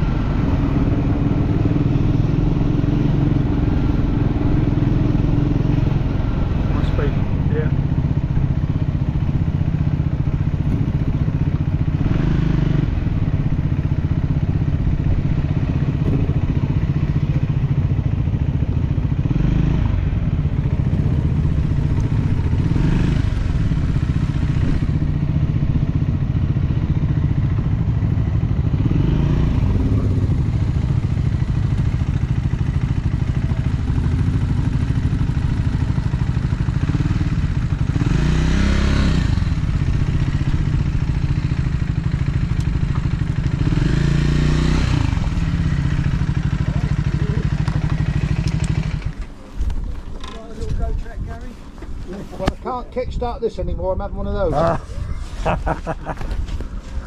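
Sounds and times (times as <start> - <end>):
motorcycle engine shifting gears: 0.0 - 52.7, 55.4 - 57.0.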